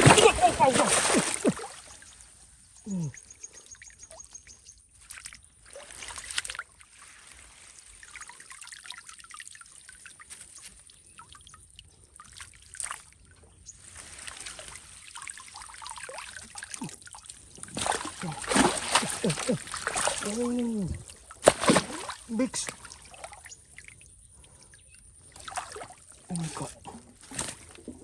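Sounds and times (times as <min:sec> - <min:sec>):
shallow water trickling and splashing: 0:00.0 - 0:28.0.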